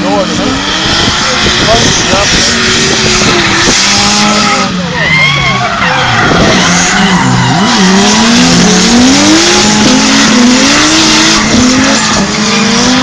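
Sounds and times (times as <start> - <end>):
car engine revving: 0.0 - 13.0
tyre squeal: 2.0 - 13.0.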